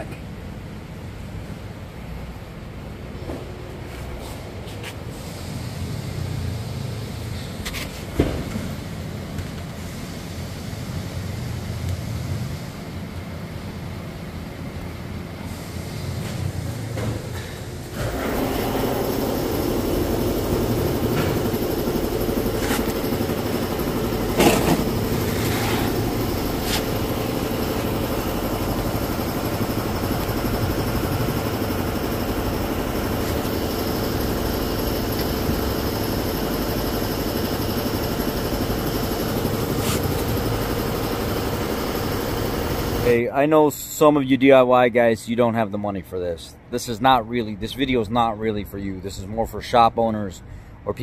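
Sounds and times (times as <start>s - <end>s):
shop machinery running: 0.0s - 43.3s.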